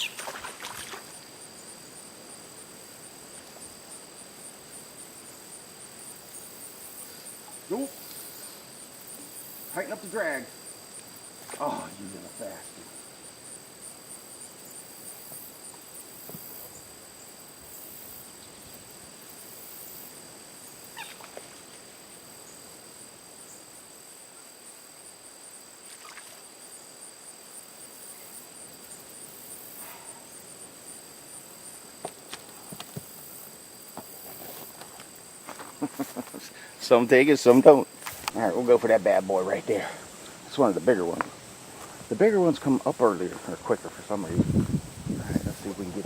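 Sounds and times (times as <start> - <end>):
faint insect chirps: 0.0 - 46.0
insect chorus drone: 0.0 - 46.0.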